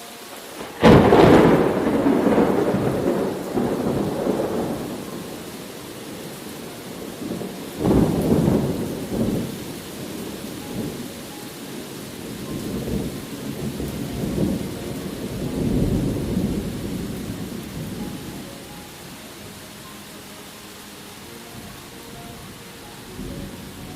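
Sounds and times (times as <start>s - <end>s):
steady rain: 0.0s - 23.9s
thunder rumbling: 0.5s - 19.9s.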